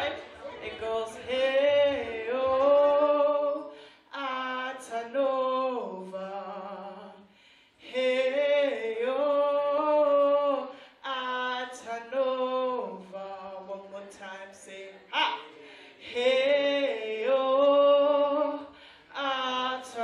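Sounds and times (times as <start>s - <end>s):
woman singing into a microphone: 0.0s - 20.0s.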